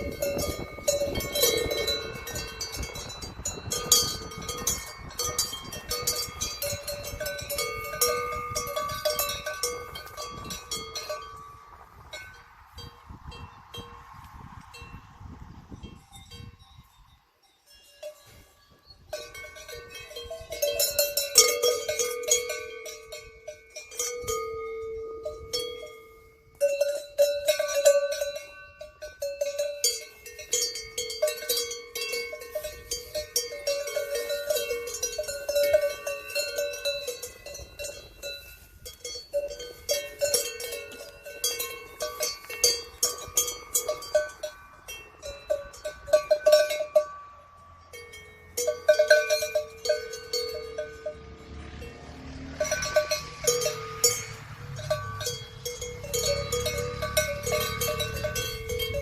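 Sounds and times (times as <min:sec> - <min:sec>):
cowbells clanking: 0:00.0 - 0:15.1, 0:15.7 - 0:59.0.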